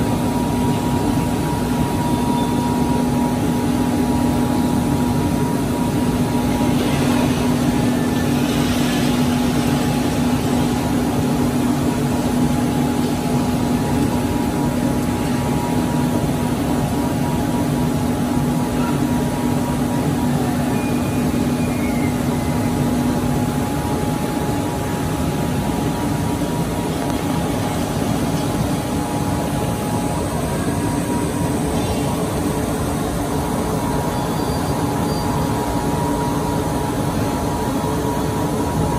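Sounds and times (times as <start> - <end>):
high steady whine: 0.0 - 38.9.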